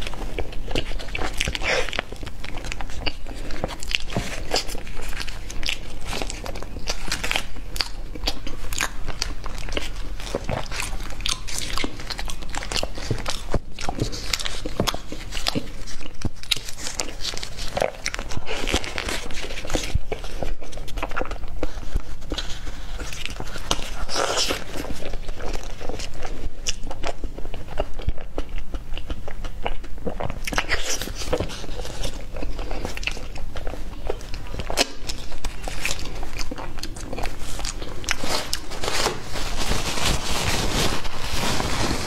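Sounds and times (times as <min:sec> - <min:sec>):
biting and chewing pastry: 0:00.0 - 0:42.0.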